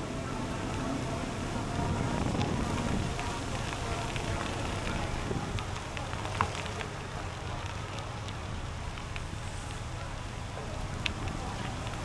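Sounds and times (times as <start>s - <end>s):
bicycle tyre noise on trail: 0.0s - 12.0s
wind rumble on microphone: 0.0s - 12.0s
small crackling ticks: 1.7s - 10.0s, 10.6s - 12.0s.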